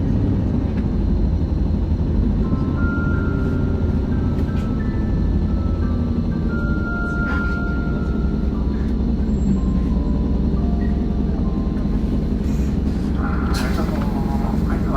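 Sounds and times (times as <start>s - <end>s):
bus engine and road rumble: 0.0s - 14.9s.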